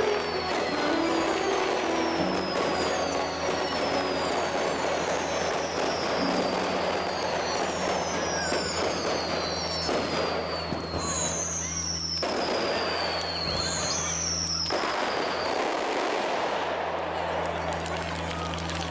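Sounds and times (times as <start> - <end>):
descending firework whistles: 0.0 - 18.9
fireworks crackling: 0.0 - 18.9.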